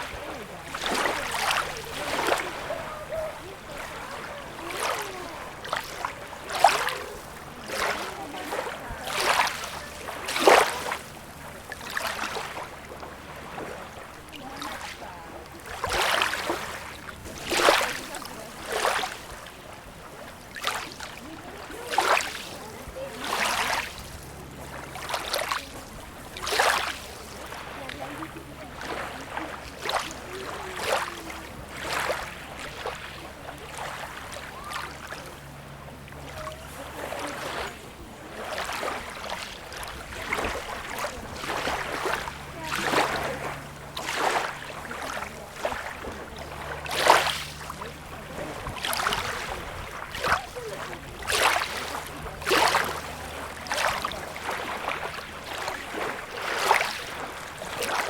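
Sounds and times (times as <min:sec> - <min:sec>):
small waves splashing at shore: 0:00.0 - 0:58.0.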